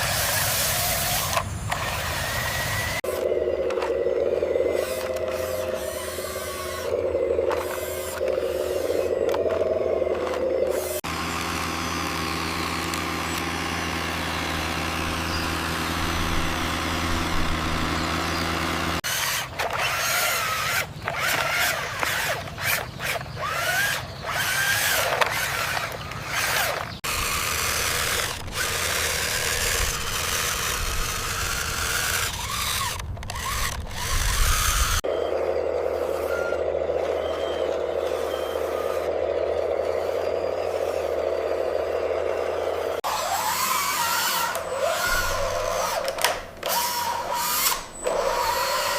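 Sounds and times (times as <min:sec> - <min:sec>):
short rising and falling whines: 0:00.0 - 0:19.1, 0:23.4 - 0:48.9
small electric motors whirring: 0:00.0 - 0:48.9.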